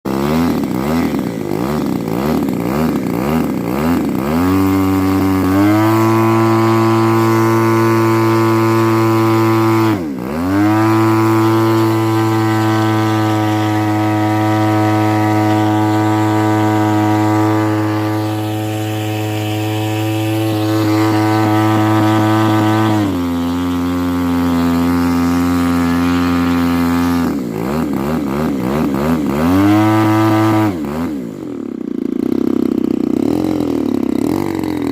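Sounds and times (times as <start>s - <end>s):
propeller plane engine misfiring: 0.1s - 34.9s.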